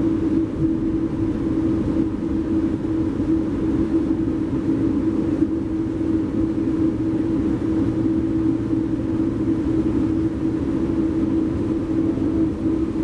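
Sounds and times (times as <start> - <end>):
constant low hum: 0.0 - 13.0
train rumble from inside coach: 0.0 - 13.0.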